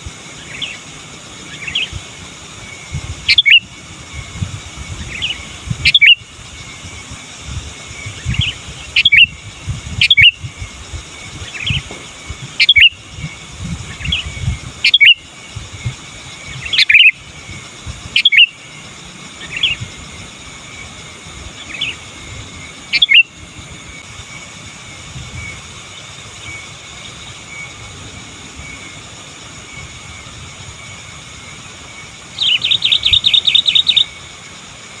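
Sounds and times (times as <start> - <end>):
bulbul calling: 0.0 - 24.1, 25.2 - 34.4.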